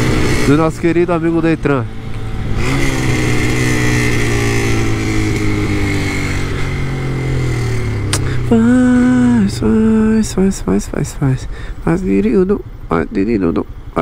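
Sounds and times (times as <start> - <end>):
moped engine running: 0.0 - 14.0.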